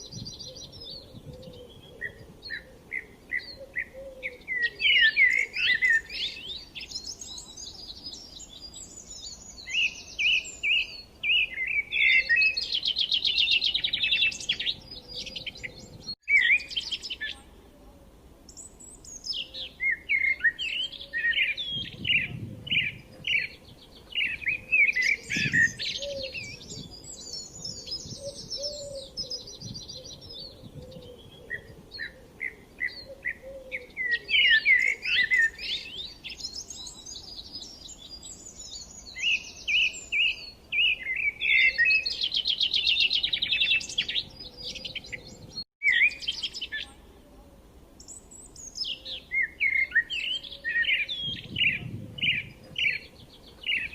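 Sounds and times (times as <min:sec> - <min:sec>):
birds chirping and singing: 0:00.0 - 0:17.6, 0:18.5 - 0:47.0, 0:48.0 - 0:53.9.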